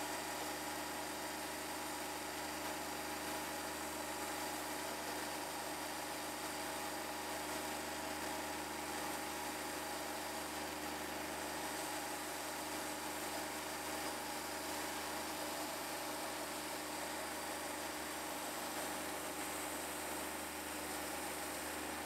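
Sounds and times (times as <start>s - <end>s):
band sawmill running: 1.0s - 22.0s.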